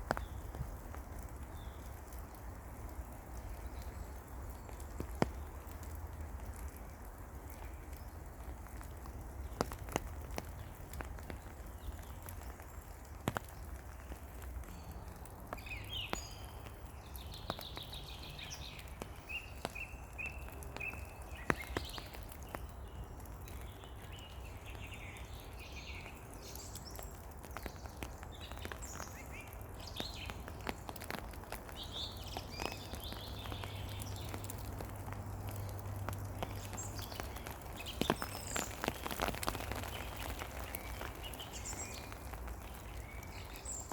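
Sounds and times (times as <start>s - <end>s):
raindrops tapping on leaves: 0.0s - 43.9s
songbirds chirping: 0.0s - 43.9s.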